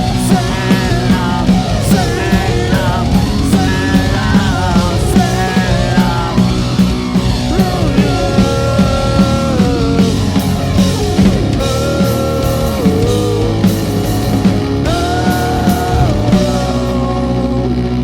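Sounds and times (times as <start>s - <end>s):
drum kit steady beat: 0.0s - 17.5s
guitars: 0.0s - 18.0s
live grunge rock band: 0.0s - 18.0s.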